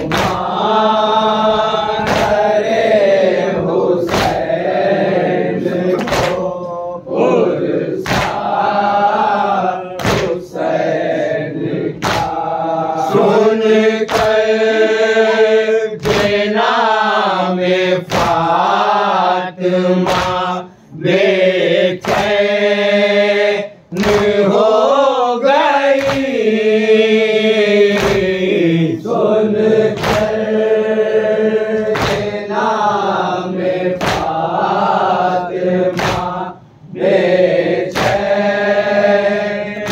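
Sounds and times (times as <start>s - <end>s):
men chanting in unison: 0.0s - 39.9s.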